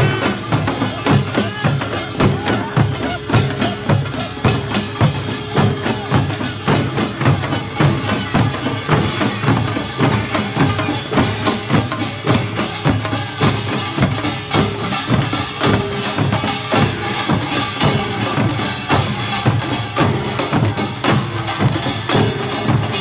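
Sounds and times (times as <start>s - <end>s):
drums beaten in fast rhythm: 0.0s - 23.0s.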